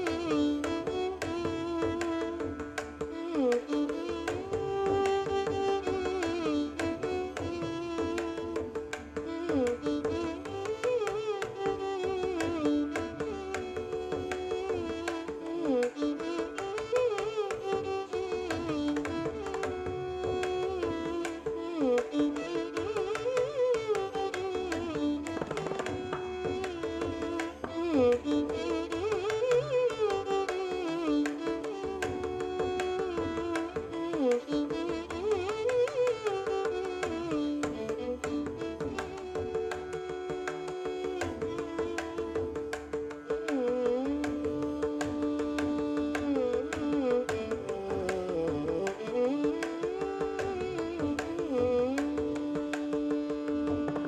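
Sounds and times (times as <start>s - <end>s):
hand drum percussion: 0.0s - 54.0s
ornamented melody: 0.0s - 54.0s.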